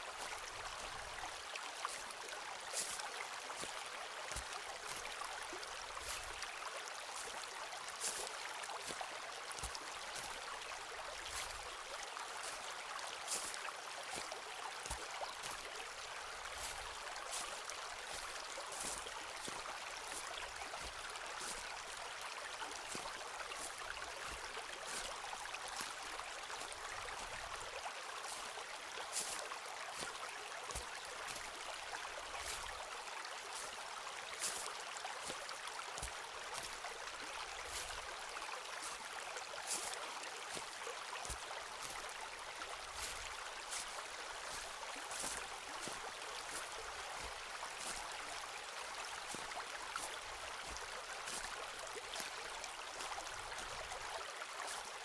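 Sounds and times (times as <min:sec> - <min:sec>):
footsteps on forest path: 0:00.0 - 0:55.0.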